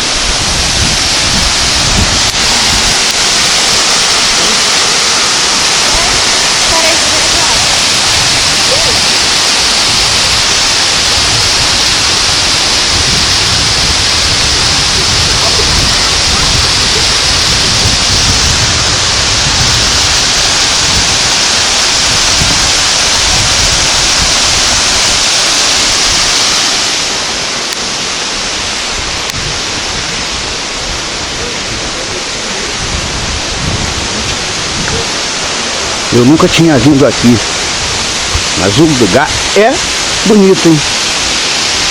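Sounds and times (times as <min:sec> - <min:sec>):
river cascade roaring: 0:00.0 - 0:41.9.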